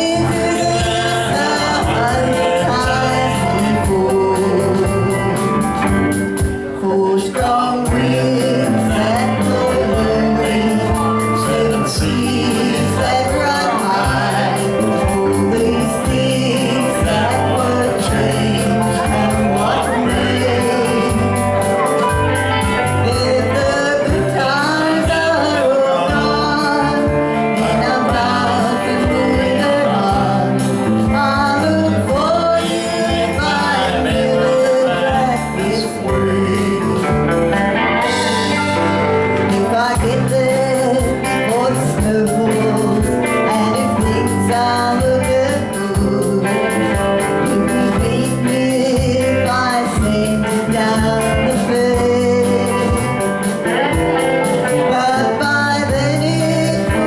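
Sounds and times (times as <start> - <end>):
guitar accompaniment: 0.0 - 57.0
person singing: 0.0 - 57.0.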